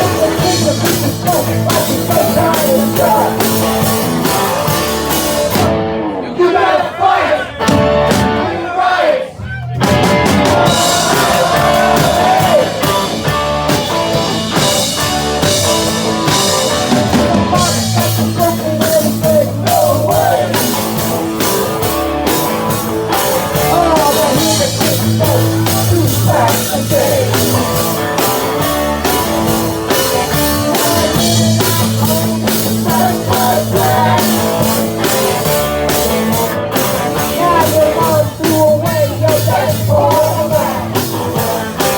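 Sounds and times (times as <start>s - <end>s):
person singing: 0.0s - 4.8s, 10.4s - 14.4s, 15.6s - 21.8s, 22.4s - 41.9s
rock band playing live: 0.0s - 6.2s, 7.6s - 8.6s, 9.4s - 41.9s
drums: 0.0s - 41.9s.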